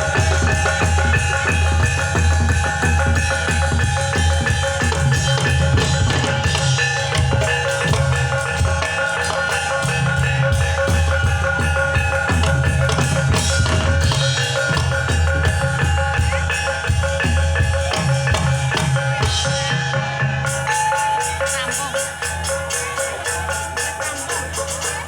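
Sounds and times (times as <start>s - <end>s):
drums steady beat: 0.0s - 25.0s
rapid high ticking percussion: 0.0s - 25.0s
ringing metallophone tones: 0.0s - 25.0s.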